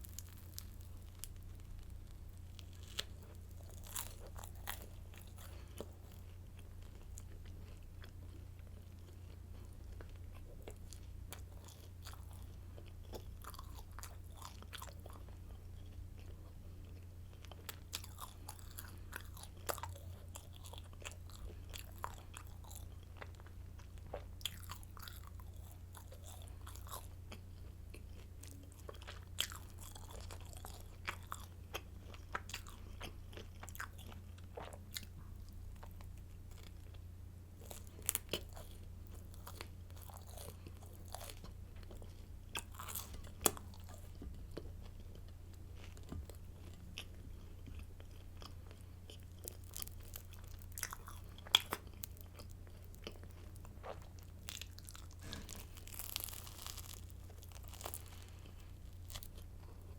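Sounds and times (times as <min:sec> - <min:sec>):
crunching and chewing bread sticks: 0:00.0 - 0:59.9.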